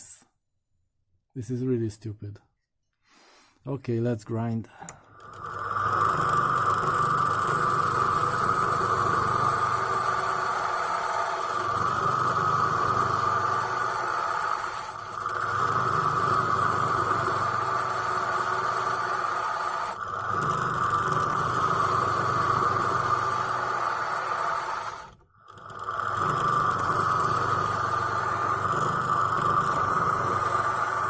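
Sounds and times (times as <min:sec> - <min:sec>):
electric grinder grinding metal: 0:05.3 - 0:31.0.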